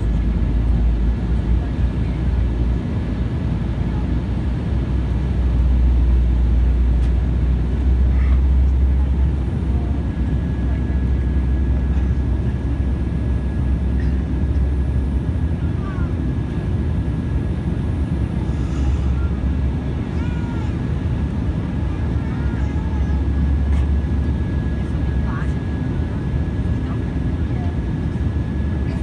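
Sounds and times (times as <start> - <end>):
jet engine cabin roar: 0.0 - 29.0
thin steady whine: 0.0 - 29.0.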